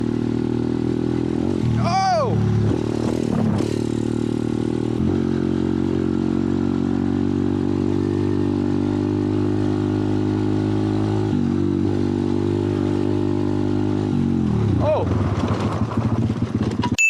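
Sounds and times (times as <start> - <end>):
pit bike engine running: 0.0 - 17.0.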